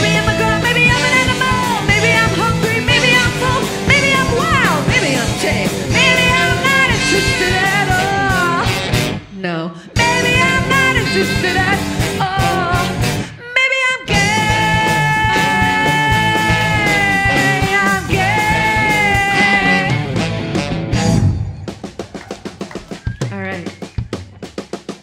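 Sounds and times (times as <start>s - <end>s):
live rock band playing: 0.0s - 9.2s, 10.0s - 13.3s, 14.1s - 25.0s.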